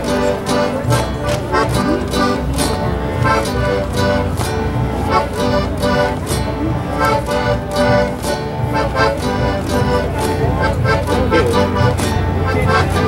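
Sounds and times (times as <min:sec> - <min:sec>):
folk music melody: 0:00.0 - 0:13.0.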